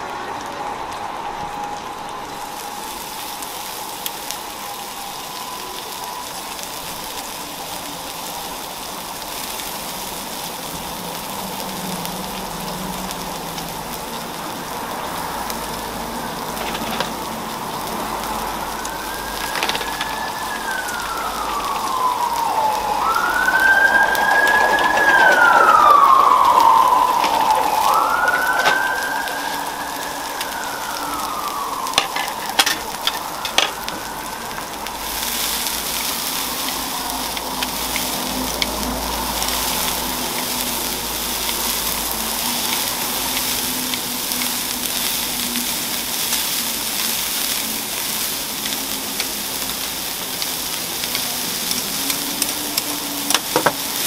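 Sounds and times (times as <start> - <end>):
food sizzling on griddle: 0.0 - 54.0
siren wailing: 0.0 - 54.0.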